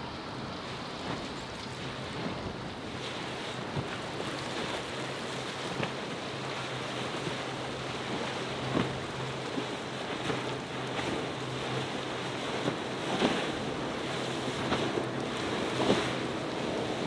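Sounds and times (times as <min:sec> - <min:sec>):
choppy surf and wash: 0:00.0 - 0:17.0
outboard engines droning: 0:00.0 - 0:17.0
water slaps: 0:01.0 - 0:17.0.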